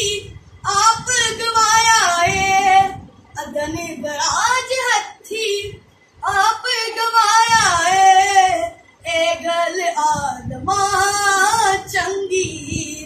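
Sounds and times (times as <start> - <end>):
boy singing: 0.0 - 13.0.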